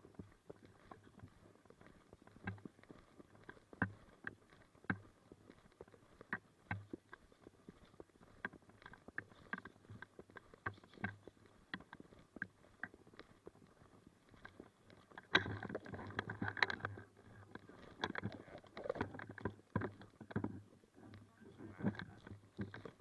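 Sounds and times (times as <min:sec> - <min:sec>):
footsteps with crackle: 0:00.0 - 0:23.0
small knocks and rustles: 0:00.0 - 0:23.0.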